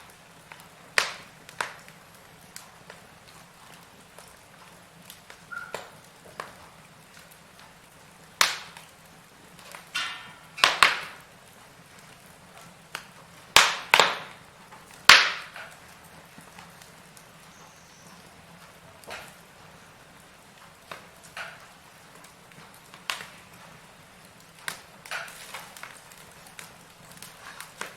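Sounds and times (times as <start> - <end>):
firewood crackling and popping: 0.0 - 27.9.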